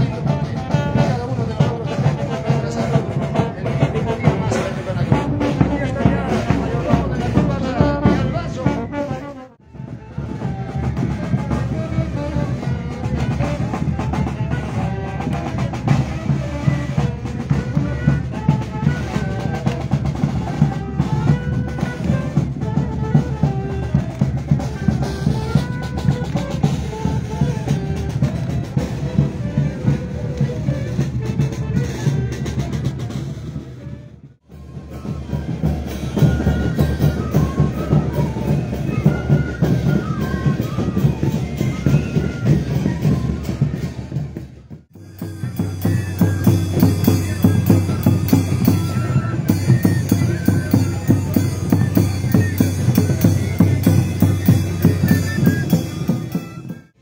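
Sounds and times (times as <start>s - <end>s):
brass band playing a march: 0.0s - 57.0s.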